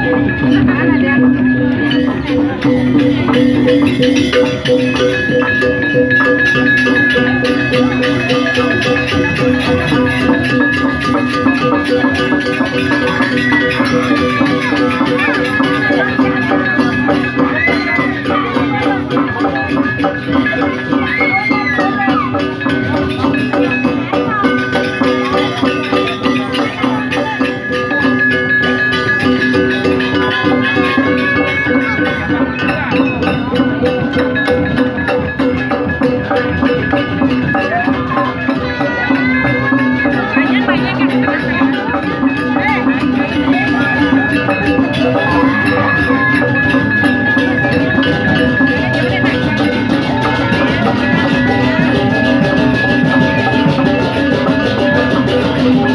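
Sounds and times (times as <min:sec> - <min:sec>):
drums and percussion beat: 0:00.0 - 0:55.9
gamelan music: 0:00.0 - 0:55.9
metallophones and gongs ringing: 0:00.0 - 0:55.9.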